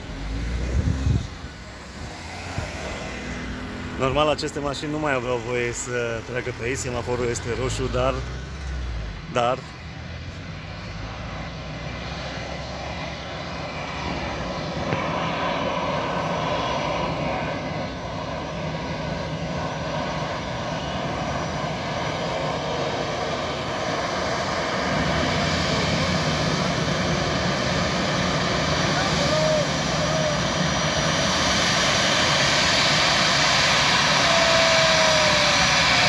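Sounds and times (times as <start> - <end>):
jet engines taxiing: 0.0 - 36.0.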